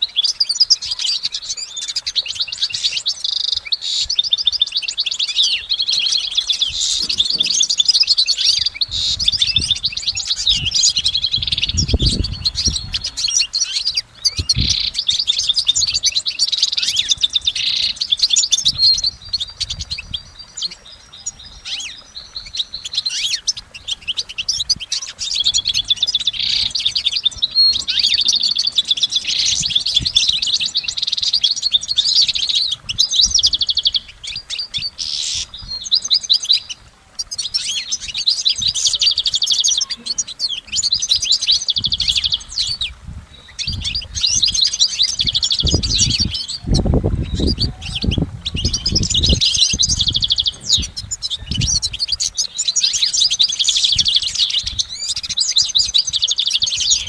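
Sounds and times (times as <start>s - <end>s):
goldfinch twittering song: 0.0s - 57.0s.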